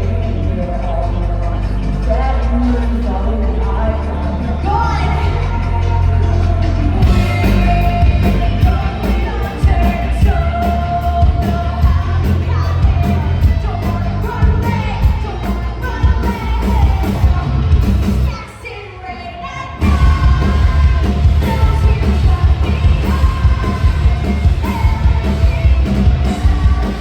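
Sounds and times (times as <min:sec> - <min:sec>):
drums beating: 0:00.0 - 0:18.5, 0:19.8 - 0:27.0
rock band playing live: 0:00.0 - 0:18.8, 0:19.8 - 0:27.0
person singing: 0:00.0 - 0:27.0.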